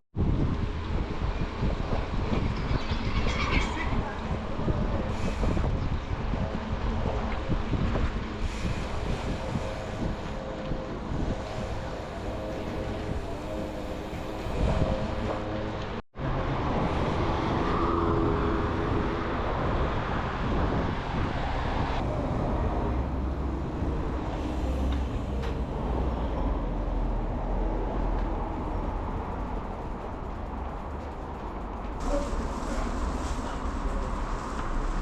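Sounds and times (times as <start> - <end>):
vehicle engine and road noise: 0.2 - 35.0.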